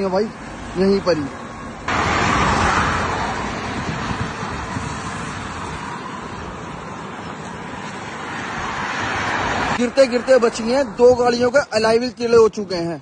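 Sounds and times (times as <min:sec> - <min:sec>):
passing vehicles tyre and engine noise: 0:00.0 - 0:13.0.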